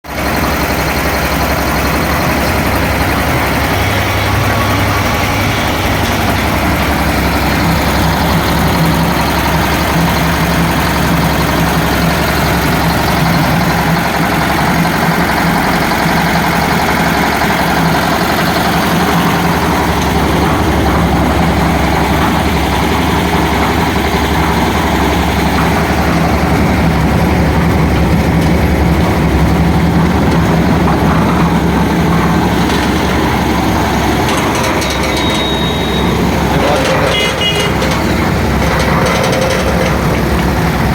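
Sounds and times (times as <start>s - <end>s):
concrete mixer running: 0.0s - 40.9s.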